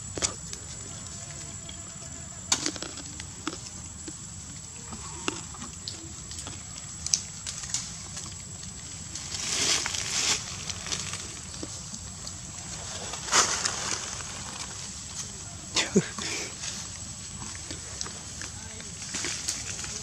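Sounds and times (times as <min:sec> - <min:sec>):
leaves rustling: 0:00.0 - 0:20.0
dry leaf litter crackling: 0:02.5 - 0:20.0.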